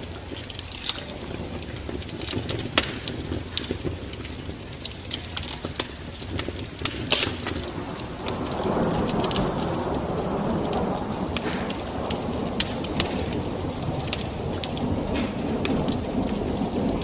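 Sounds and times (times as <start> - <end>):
rain: 0.0 - 17.0
rolling thunder: 0.0 - 17.0
wood fire crackling and popping: 0.0 - 17.0.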